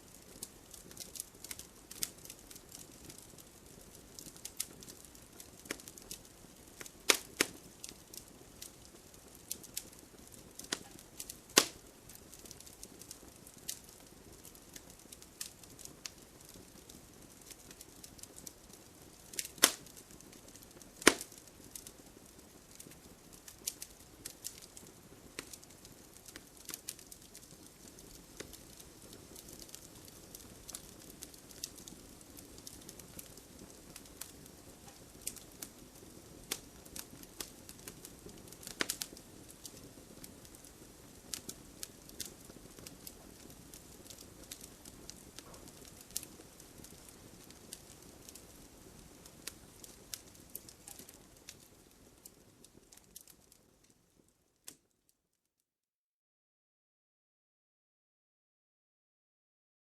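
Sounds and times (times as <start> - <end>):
burning logs popping: 0.0 - 54.9
wood fire crackling: 0.0 - 55.0.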